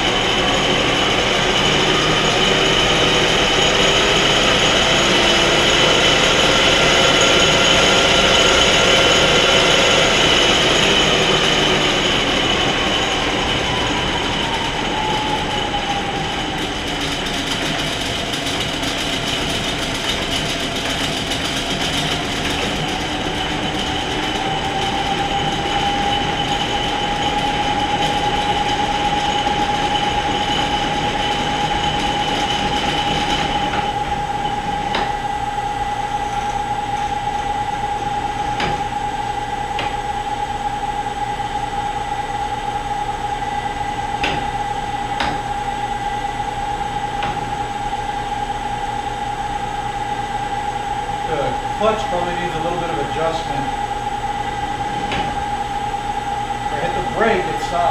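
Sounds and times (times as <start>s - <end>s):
lathe motor electric whine: 0.0s - 57.9s.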